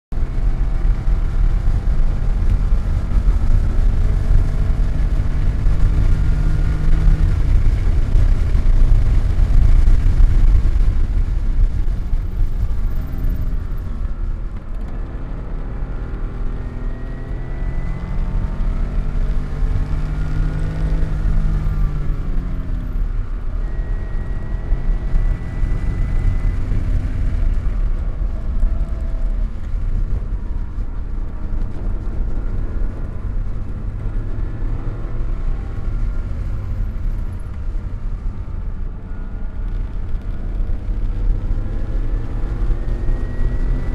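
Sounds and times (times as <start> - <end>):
car engine accelerating hard: 0.1 - 43.9
wind and road noise: 0.1 - 43.9.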